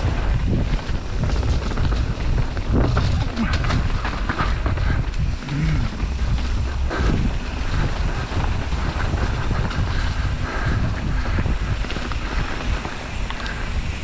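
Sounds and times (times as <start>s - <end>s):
tyres rumbling on wet dirt: 0.0s - 14.0s
wind buffeting microphone: 0.0s - 14.0s.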